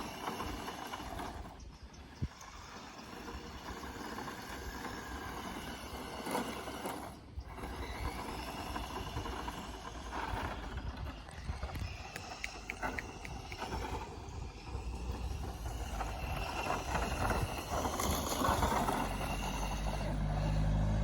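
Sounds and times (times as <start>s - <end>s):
rc car rattling hum: 0.0s - 21.0s.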